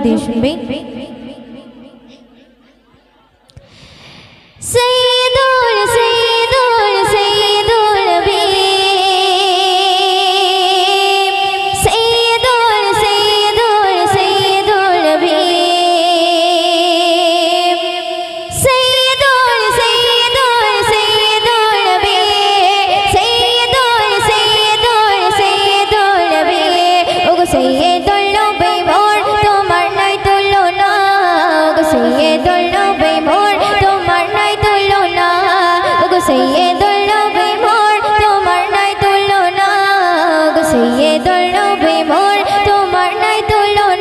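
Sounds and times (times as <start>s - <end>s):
woman singing into microphone: 0.0s - 44.0s.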